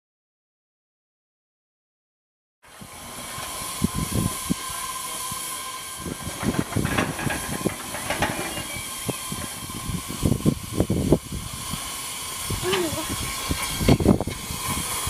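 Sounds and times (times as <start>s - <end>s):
steam hissing from locomotive: 2.6s - 15.0s.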